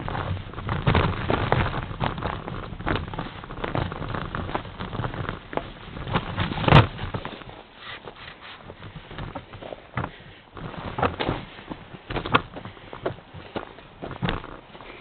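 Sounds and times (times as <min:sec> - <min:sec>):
bike rattling with knocks: 0:00.0 - 0:15.0.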